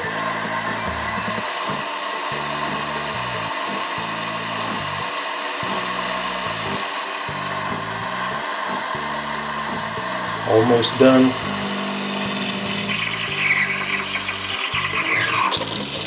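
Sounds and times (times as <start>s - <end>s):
low pump hum: 0.0s - 15.0s
espresso machine frothing milk: 0.0s - 16.0s.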